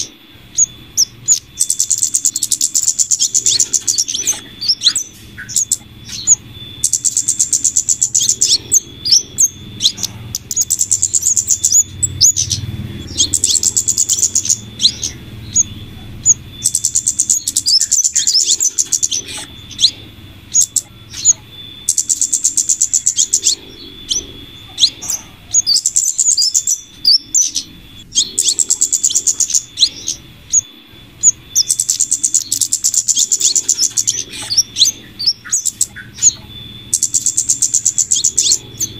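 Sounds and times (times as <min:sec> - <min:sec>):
bird trills high-pitched: 0:00.0 - 0:38.9
sharp high bird chirps: 0:00.0 - 0:38.9.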